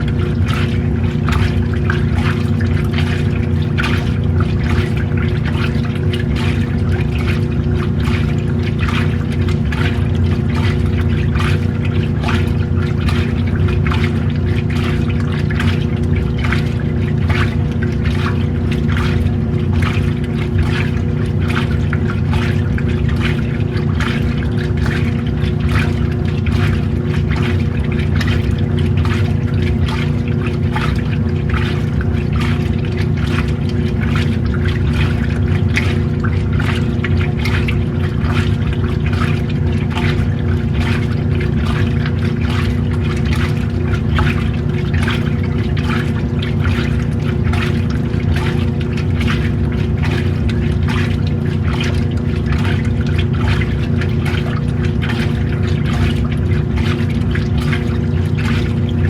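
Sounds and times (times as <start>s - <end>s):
washing machine motor hum: 0.0s - 59.0s
water sloshing in tub: 0.0s - 59.0s.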